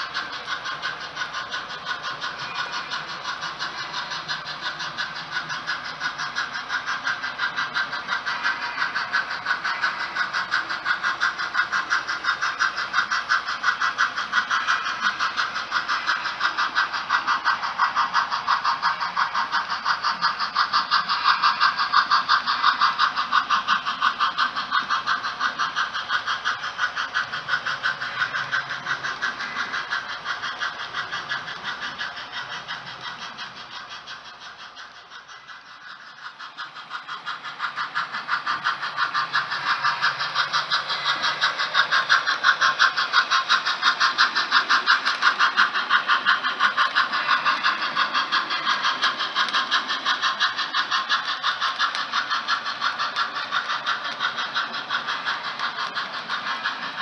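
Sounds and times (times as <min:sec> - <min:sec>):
model train running on track: 0:00.0 - 0:57.0.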